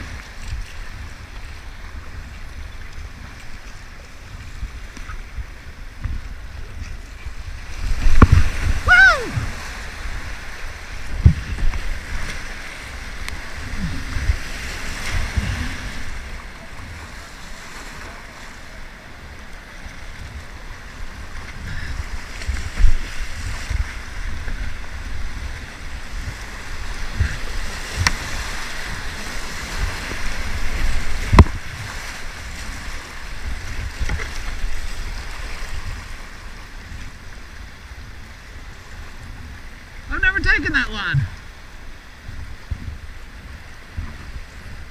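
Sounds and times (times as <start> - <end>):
whitewater rushing and splashing: 0.0 - 44.9
wind rumble on microphone: 0.0 - 44.9.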